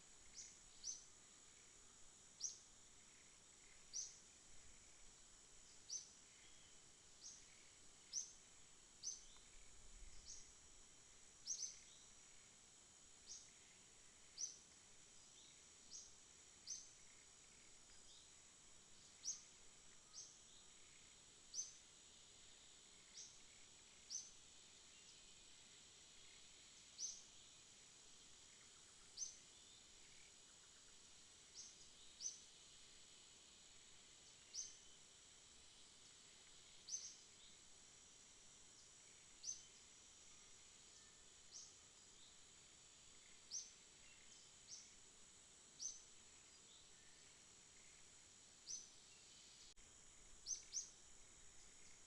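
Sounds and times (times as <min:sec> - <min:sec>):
insect chirps: 0:00.0 - 0:52.0
insect chorus buzzing: 0:00.0 - 0:52.0.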